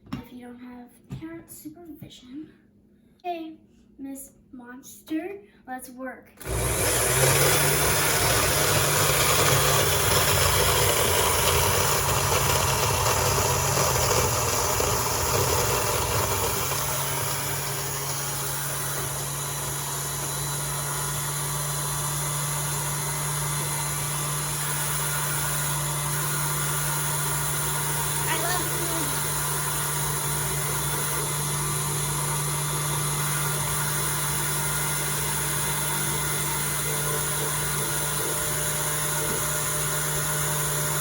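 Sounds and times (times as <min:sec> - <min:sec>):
blender crushing ice and fruit: 0:06.4 - 0:41.0.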